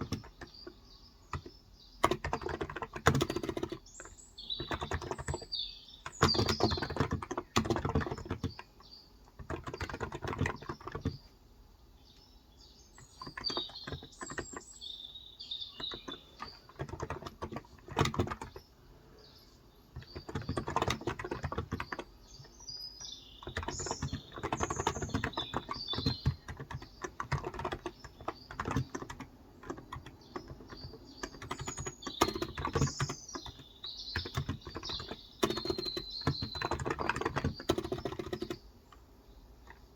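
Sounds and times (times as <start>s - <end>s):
keyboard typing: 0.0s - 11.2s, 13.0s - 14.8s, 15.6s - 18.6s, 19.9s - 38.6s
birds chirping: 0.0s - 39.9s.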